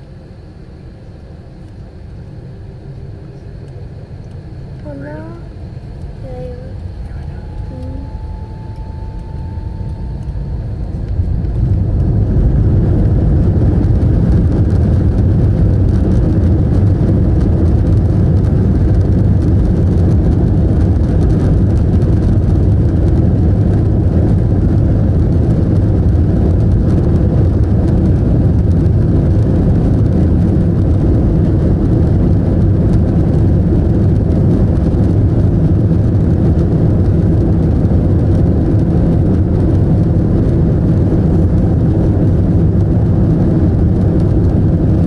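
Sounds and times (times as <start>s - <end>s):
faint rising whine: 0.0s - 45.0s
jet engines roaring: 0.0s - 45.0s.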